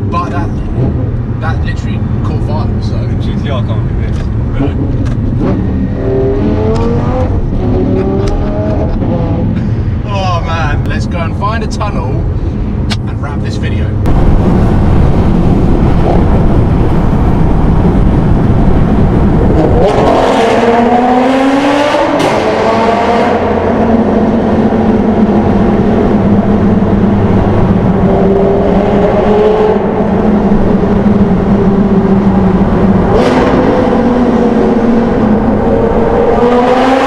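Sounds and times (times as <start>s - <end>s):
sports car engine accelerating: 0.5s - 10.0s, 14.1s - 37.0s.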